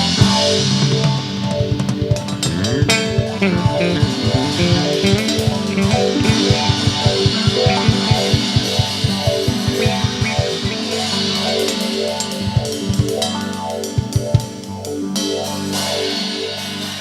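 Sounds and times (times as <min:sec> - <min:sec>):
cymbals: 0:00.0 - 0:17.0
instrumental band music: 0:00.0 - 0:17.0.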